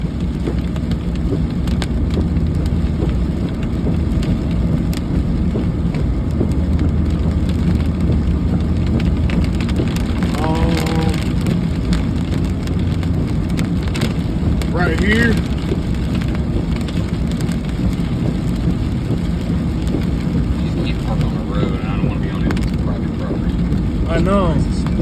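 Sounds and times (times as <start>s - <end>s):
car rumbling: 0.0s - 25.0s
rain drops ticking on a car: 0.0s - 25.0s.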